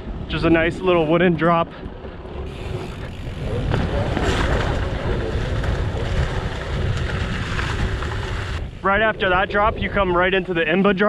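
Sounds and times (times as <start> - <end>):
bike tyres rumbling: 0.0 - 11.0
wind rushing over microphone: 0.0 - 11.0.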